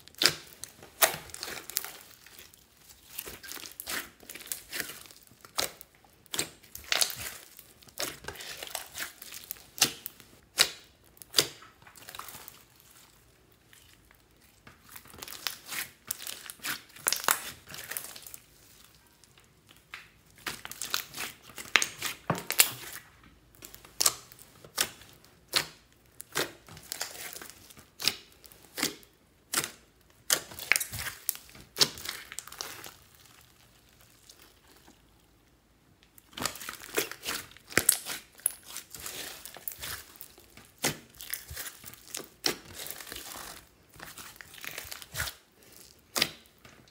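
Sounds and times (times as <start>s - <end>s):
slime crackling and popping: 0.0s - 35.1s, 36.0s - 46.9s.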